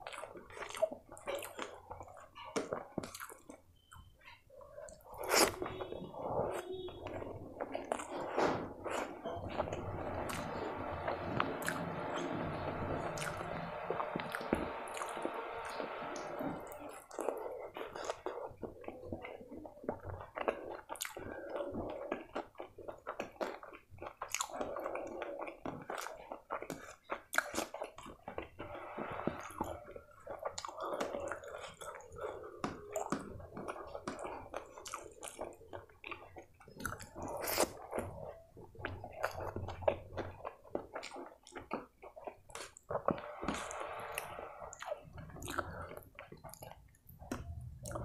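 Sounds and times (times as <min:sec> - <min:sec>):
chewing food: 0:00.0 - 0:48.0.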